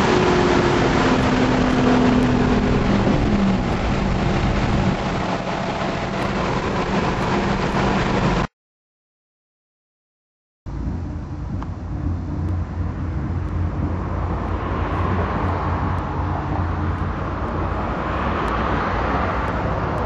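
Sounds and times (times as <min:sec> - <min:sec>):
car engine at highway speed: 0:00.0 - 0:08.5, 0:10.7 - 0:20.0
road noise: 0:00.0 - 0:08.5, 0:10.7 - 0:20.0
wind noise: 0:00.0 - 0:08.5, 0:10.7 - 0:20.0.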